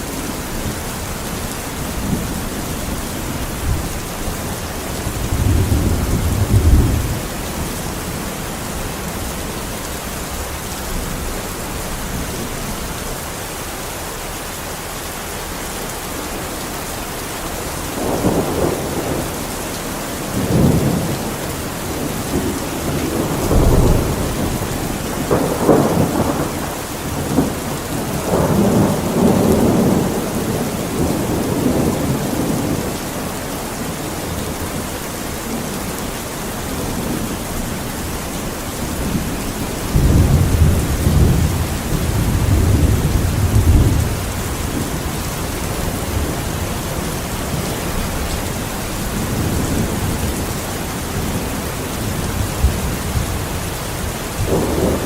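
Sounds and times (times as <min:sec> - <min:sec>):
thunder rumbling: 0:00.0 - 0:13.1, 0:17.4 - 0:55.0
steady rain falling: 0:00.0 - 0:55.0.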